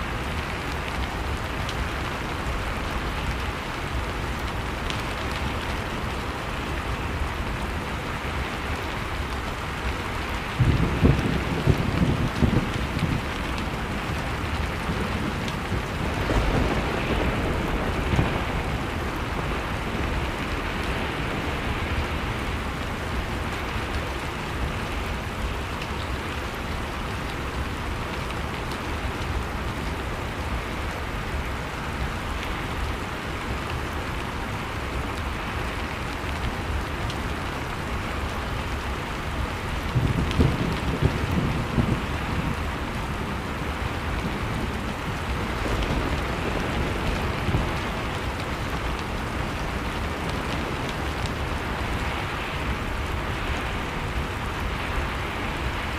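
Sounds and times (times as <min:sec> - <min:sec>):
blizzard wind blowing: 0:00.0 - 0:55.9
low rumbling gusts: 0:00.0 - 0:55.9
wood fire crackling: 0:00.0 - 0:55.9.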